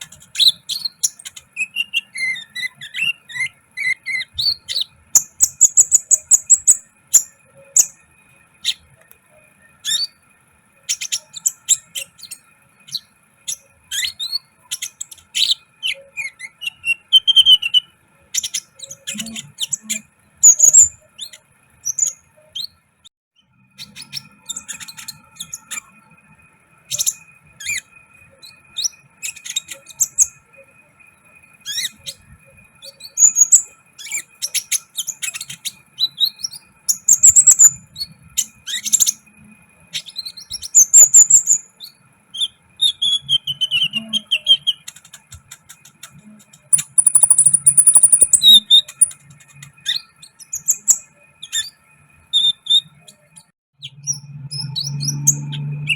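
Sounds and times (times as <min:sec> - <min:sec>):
bird chirping and trilling: 0:00.0 - 0:08.0, 0:08.6 - 0:08.9, 0:09.7 - 0:10.2, 0:10.8 - 0:22.8, 0:23.4 - 0:26.1, 0:26.9 - 0:30.5, 0:31.6 - 0:39.3, 0:39.9 - 0:55.9.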